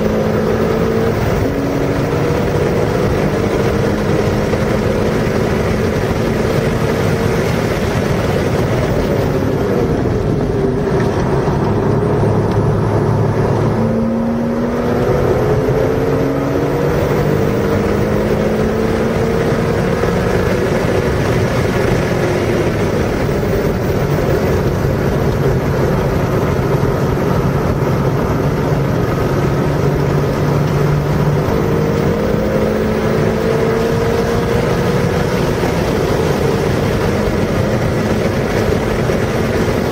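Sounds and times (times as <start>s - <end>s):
car engine accelerating hard: 0.0s - 39.9s
wind and road noise: 0.0s - 39.9s.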